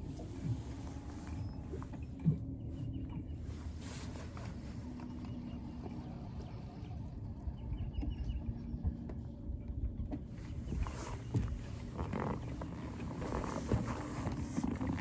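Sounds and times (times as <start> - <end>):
boat engine rumble: 0.0 - 15.0
faint steady hum: 0.0 - 15.0.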